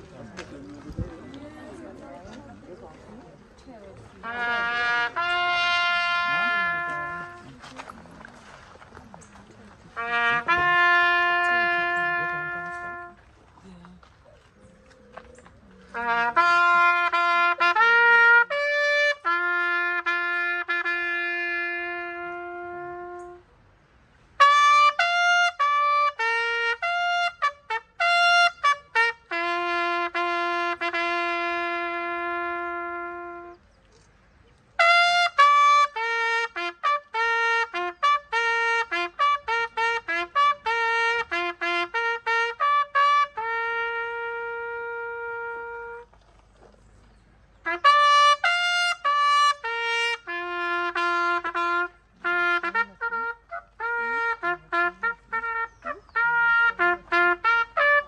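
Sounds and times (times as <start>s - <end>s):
solo brass instrument melody: 4.1s - 8.8s, 9.4s - 13.7s, 15.8s - 23.6s, 24.2s - 33.8s, 34.8s - 46.4s, 47.5s - 58.0s.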